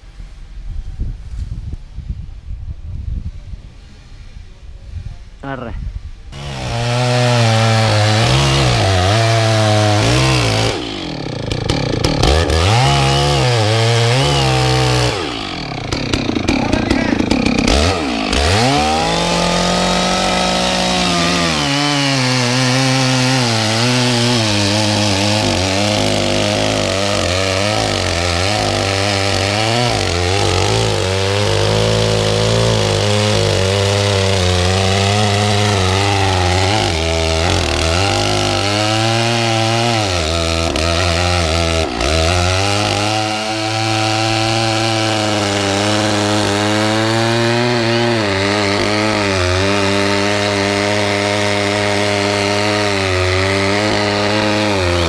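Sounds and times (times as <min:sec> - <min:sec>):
chainsaw cutting wood: 0:06.3 - 0:55.0.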